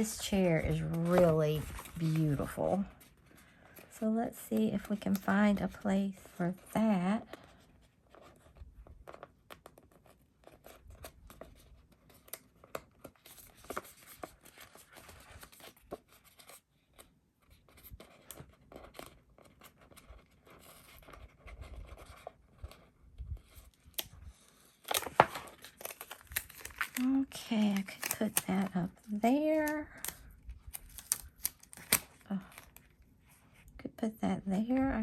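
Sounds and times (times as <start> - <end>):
paper rustling: 0.0 - 3.9, 7.3 - 33.6.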